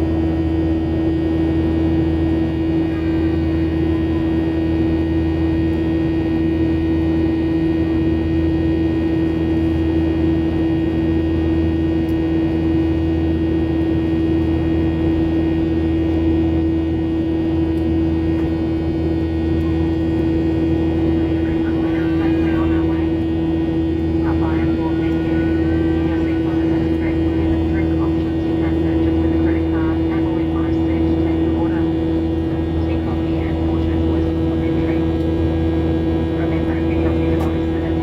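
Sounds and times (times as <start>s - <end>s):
jet engine drone in cabin: 0.0s - 38.0s.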